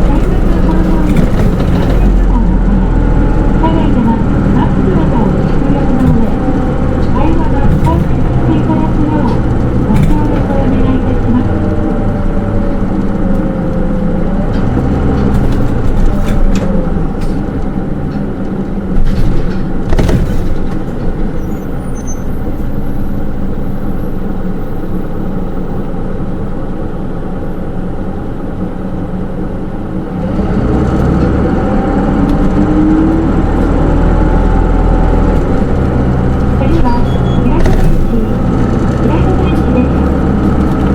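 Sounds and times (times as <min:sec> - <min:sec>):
rising engine whine: 0:00.0 - 0:19.9, 0:20.5 - 0:40.9
bus diesel engine: 0:00.0 - 0:40.9
road noise: 0:00.0 - 0:40.9.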